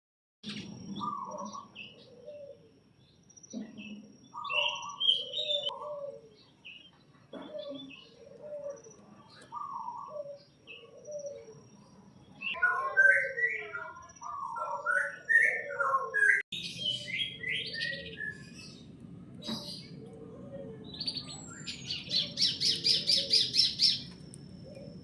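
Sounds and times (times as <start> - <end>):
birds chirping and calling: 0.4 - 25.0.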